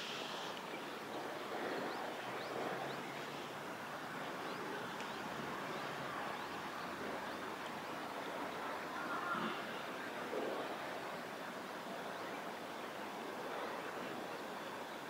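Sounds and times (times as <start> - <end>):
flowing water: 0.0 - 15.0
wind: 0.0 - 15.0.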